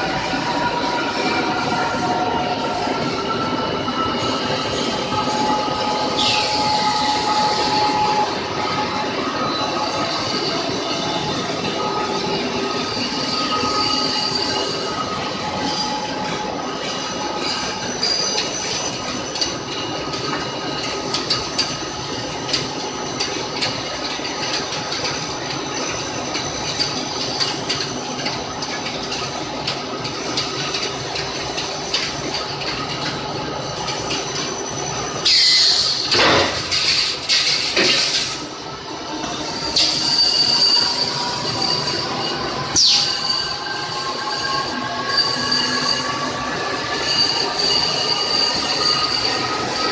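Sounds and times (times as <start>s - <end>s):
wire drawing machine whine: 0.0s - 49.9s.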